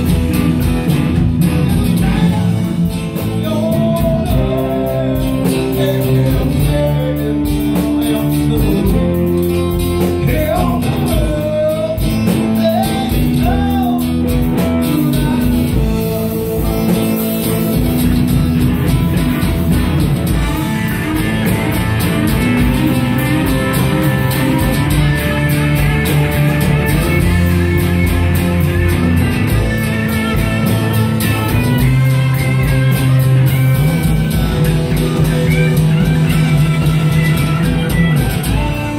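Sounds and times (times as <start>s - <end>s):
bending lead guitar notes: 0.0s - 38.9s
rock band playing: 0.0s - 38.9s.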